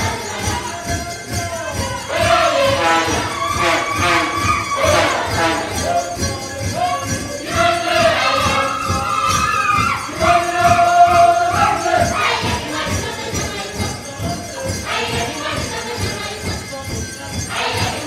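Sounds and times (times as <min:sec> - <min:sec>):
steady beat: 0:00.0 - 0:16.7
children singing a folk song: 0:00.0 - 0:18.0
rhythmic jingling percussion: 0:00.0 - 0:18.0.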